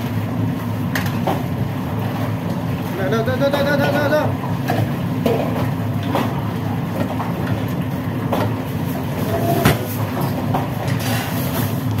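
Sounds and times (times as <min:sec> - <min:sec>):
kitchen machinery rumble: 0:00.0 - 0:12.0.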